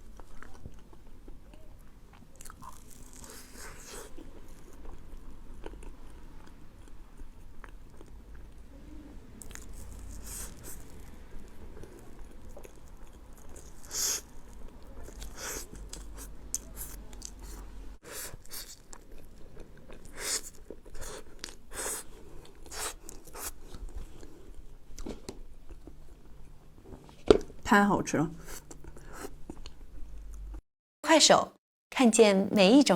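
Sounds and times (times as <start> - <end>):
chewing and biting food: 0.0 - 8.7, 9.4 - 27.5.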